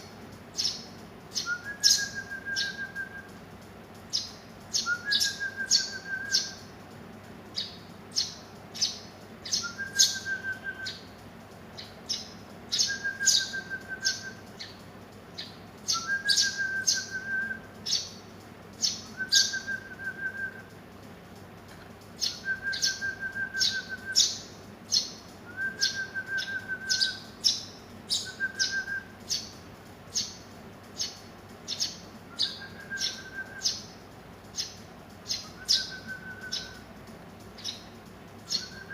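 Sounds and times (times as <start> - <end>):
low-pitched bird trill: 0.0 - 6.8, 7.5 - 20.8, 22.1 - 38.9
sparrows chirping: 0.0 - 38.9.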